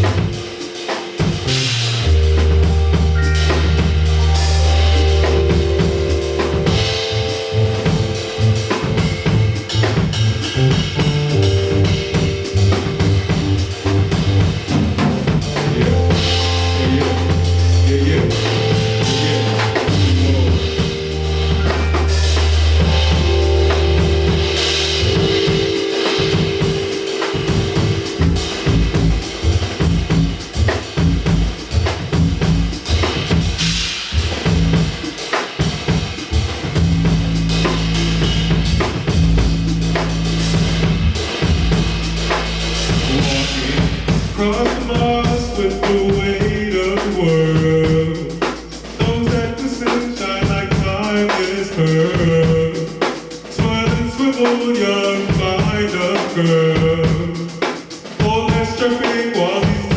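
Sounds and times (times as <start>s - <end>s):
heavy bass line: 0.0s - 53.8s
keyboard melody: 0.0s - 54.7s
drum kit: 0.0s - 59.9s.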